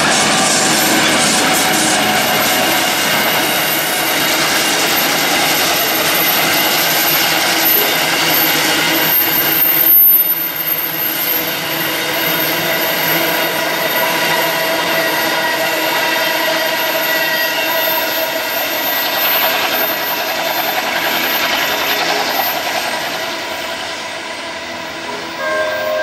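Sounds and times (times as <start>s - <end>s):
wheels squealing on rails: 0.0s - 26.0s.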